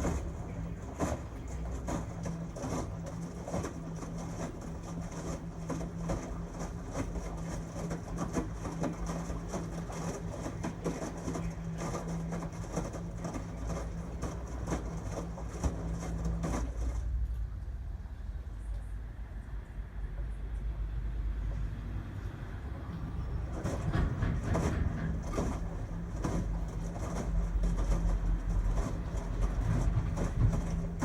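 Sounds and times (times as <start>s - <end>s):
washing machine motor humming: 0.0s - 17.2s, 21.0s - 31.0s
laundry tumbling with knocks and splashes: 0.0s - 17.4s, 21.0s - 31.0s.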